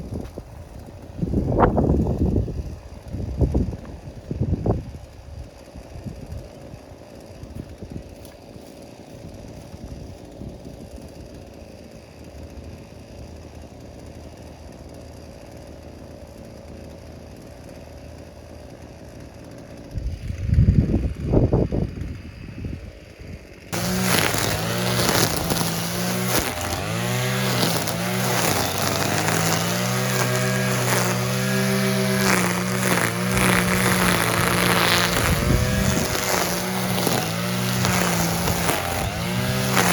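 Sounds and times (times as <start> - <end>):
brush cutter engine revving: 0.0 - 39.9.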